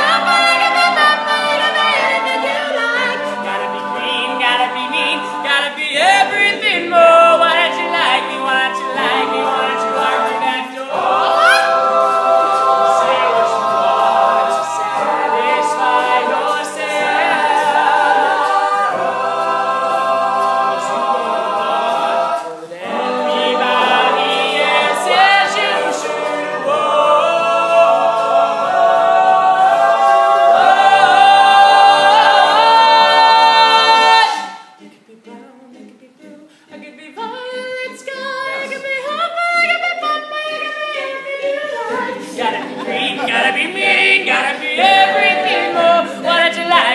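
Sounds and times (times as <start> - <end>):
male a cappella group singing: 0.0 - 46.9.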